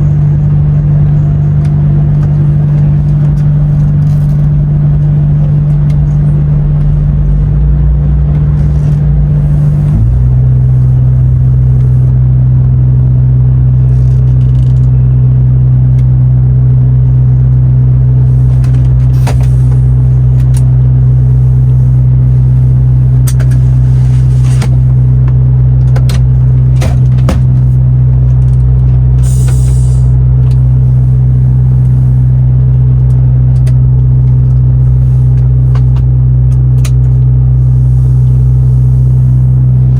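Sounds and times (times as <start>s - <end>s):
truck engine drone in cab: 0.0s - 39.9s.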